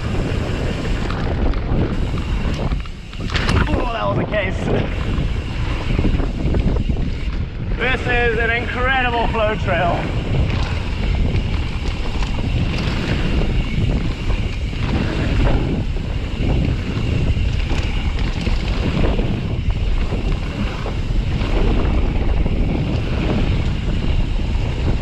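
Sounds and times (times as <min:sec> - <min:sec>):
bike knocks and rattles: 0:00.0 - 0:07.8, 0:10.1 - 0:25.0
bike tyres rolling on dirt: 0:00.0 - 0:25.0
wind buffeting microphone: 0:00.0 - 0:25.0.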